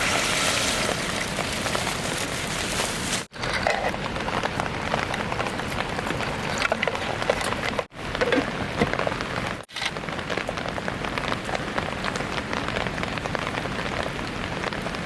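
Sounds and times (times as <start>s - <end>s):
rain pattering: 0.0s - 15.0s
raindrops ticking on surfaces: 0.3s - 15.0s.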